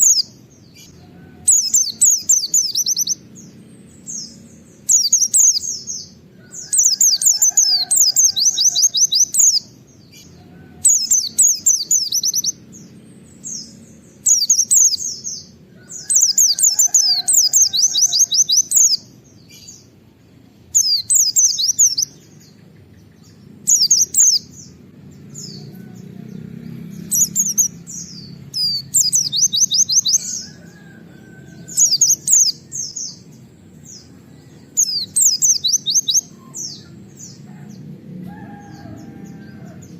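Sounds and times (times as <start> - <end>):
bird singing down-sweeping notes: 0.0 - 39.9
steady low background noise: 0.0 - 39.9.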